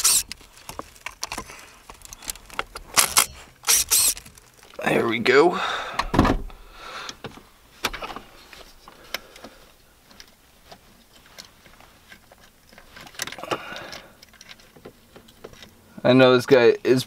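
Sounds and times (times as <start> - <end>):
light clicks and knocks of parts: 0.0 - 4.9, 7.0 - 16.0.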